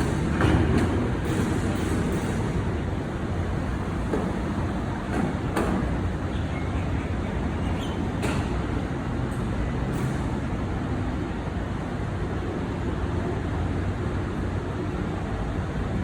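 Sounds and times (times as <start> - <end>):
road traffic rumble: 0.0 - 16.0
truck engines: 0.0 - 16.0.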